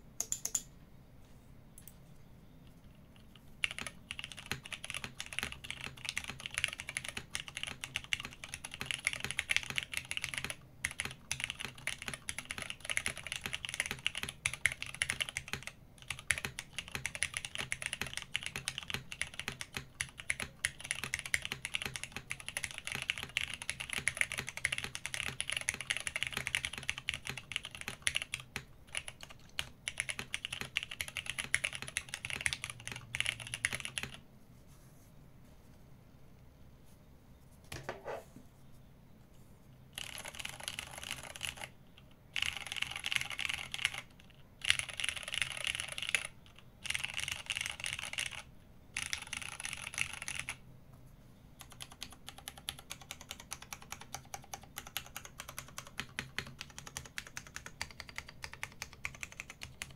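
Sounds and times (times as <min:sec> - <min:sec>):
mechanical keyboard typing: 0:00.2 - 0:00.7, 0:03.2 - 0:34.2, 0:39.9 - 0:50.6, 0:51.6 - 0:59.9.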